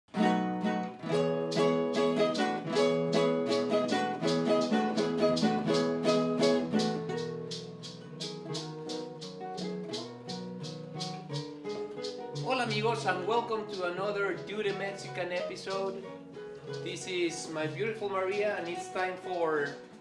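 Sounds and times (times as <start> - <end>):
plucked string music: 0.1 - 20.0.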